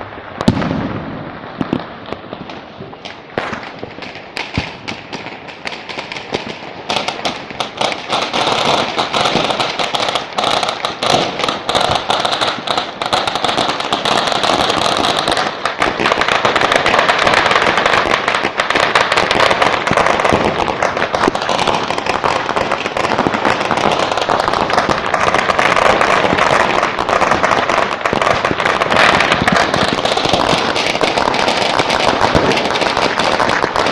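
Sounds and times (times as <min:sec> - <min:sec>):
firecrackers and fireworks popping: 0:00.0 - 0:33.9.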